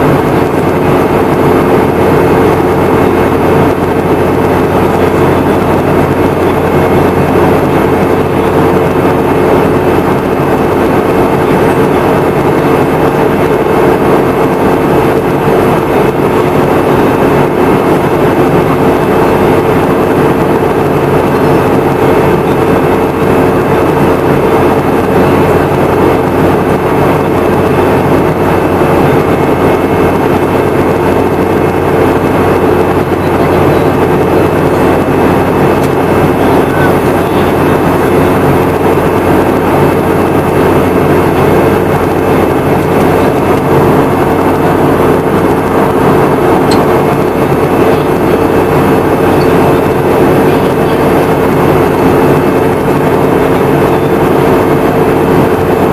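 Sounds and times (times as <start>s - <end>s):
jet engines humming: 0.0s - 55.9s
rush of airflow: 0.0s - 55.9s.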